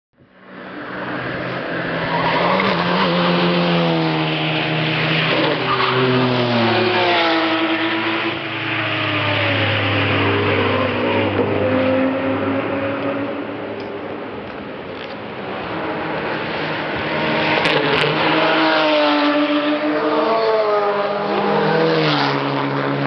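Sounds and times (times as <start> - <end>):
race car engine passing: 0.4 - 14.3, 15.3 - 23.0.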